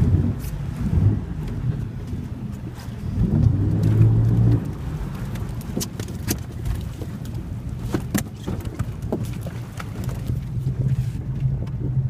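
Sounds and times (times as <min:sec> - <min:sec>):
boat motor running: 0:00.0 - 0:12.0.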